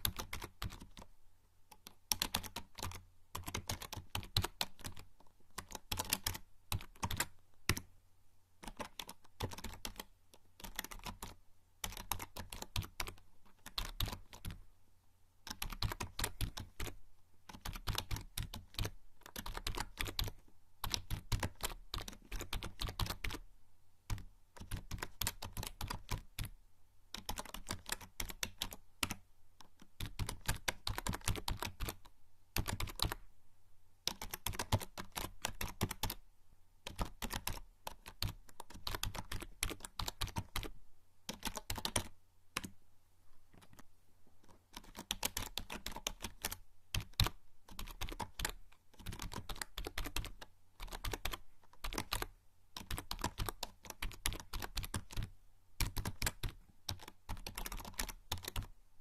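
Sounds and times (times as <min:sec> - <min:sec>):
typing on computer keyboard: 0:00.0 - 0:01.1, 0:01.7 - 0:07.9, 0:08.6 - 0:14.6, 0:15.4 - 0:23.4, 0:24.1 - 0:33.2, 0:34.0 - 0:36.2, 0:36.8 - 0:40.7, 0:41.3 - 0:42.8, 0:43.6 - 0:43.8, 0:44.4 - 0:58.7.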